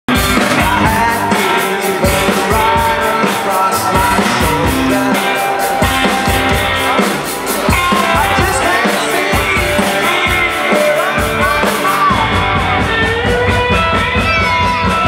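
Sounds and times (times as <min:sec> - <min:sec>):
live rock band playing: 0:00.1 - 0:15.0.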